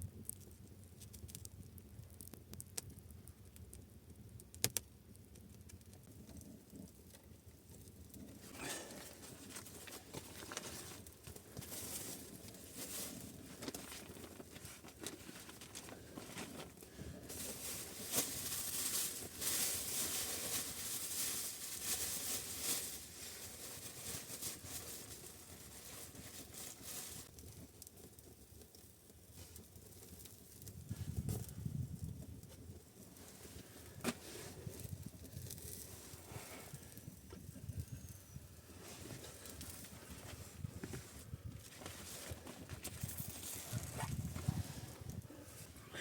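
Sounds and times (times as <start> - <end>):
rustling and crackling: 5.4 - 37.9, 38.5 - 46.0.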